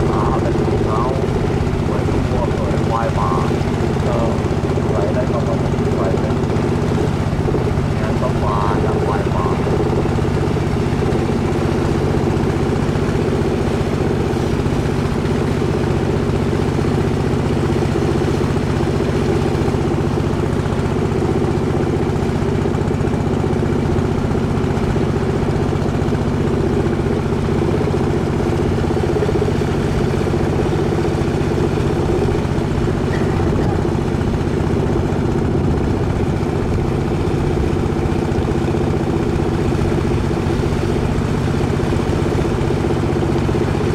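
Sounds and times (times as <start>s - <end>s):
boat engine droning: 0.0s - 43.9s.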